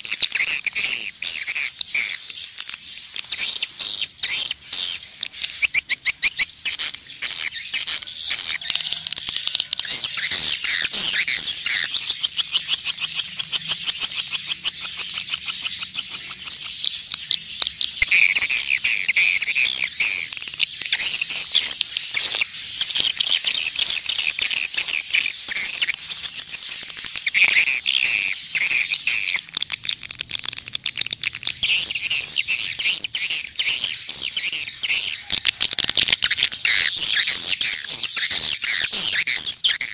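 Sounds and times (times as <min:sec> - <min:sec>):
lower twittering bird calls: 0:00.0 - 0:39.9
swiftlets chirping and clicking: 0:00.0 - 0:39.9.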